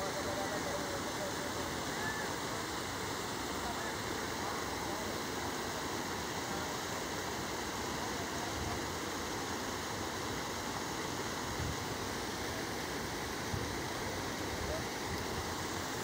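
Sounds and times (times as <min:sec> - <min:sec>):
river water pouring over weir: 0:00.0 - 0:16.0.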